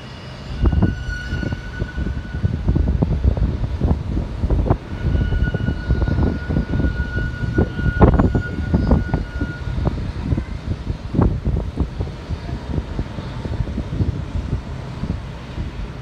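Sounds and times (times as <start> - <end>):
high engine whine: 0.0 - 16.0.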